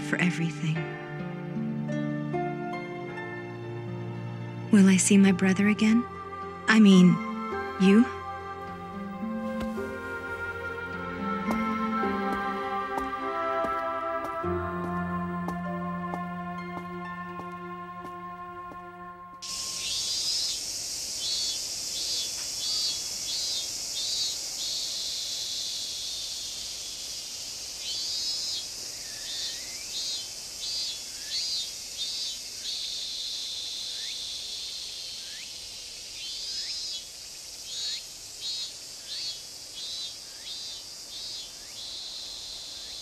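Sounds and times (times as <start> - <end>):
cicadas chirping: 0.0 - 43.0.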